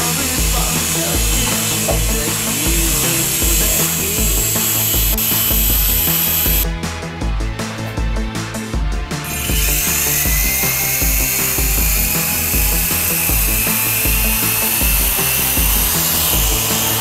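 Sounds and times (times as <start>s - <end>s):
toy helicopter motor whining: 0.0s - 6.6s, 9.2s - 17.0s
background music with steady beat: 0.0s - 17.0s.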